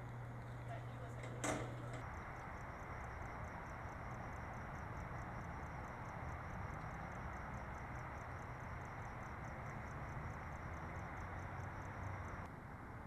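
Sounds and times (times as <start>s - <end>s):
cricket chirping: 0.0s - 12.5s.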